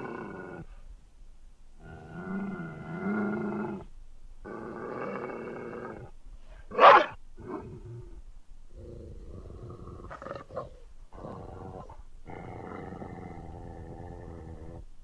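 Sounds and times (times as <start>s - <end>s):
large dog growling: 0.0s - 0.7s, 1.8s - 6.8s, 7.4s - 14.9s.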